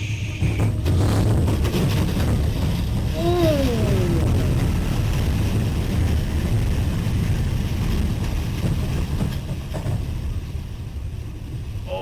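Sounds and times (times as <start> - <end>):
tornado winds roaring: 0.0 - 12.0
wind buffeting microphone: 0.2 - 12.0.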